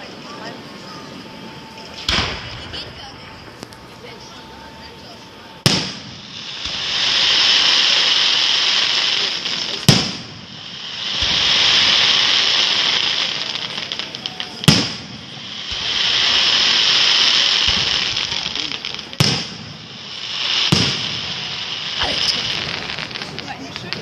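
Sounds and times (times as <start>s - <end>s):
firework bangs: 0.0s - 24.0s
firework hissing crackling spray: 0.0s - 24.0s.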